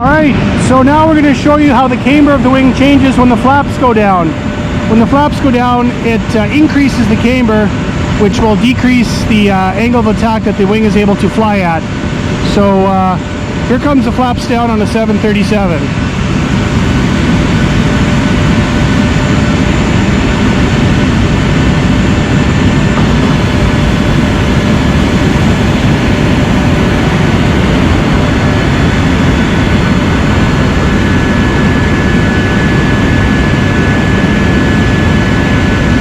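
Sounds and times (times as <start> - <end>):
aircraft systems rumble: 0.0 - 36.0
thin high whine: 0.0 - 36.0.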